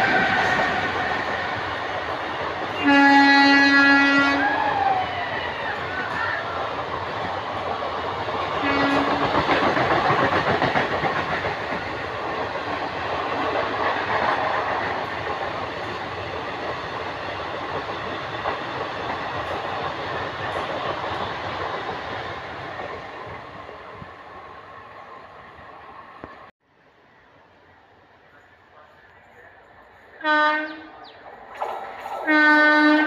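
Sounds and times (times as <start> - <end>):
train wheels clattering over rails: 0.0 - 24.1, 30.0 - 33.0.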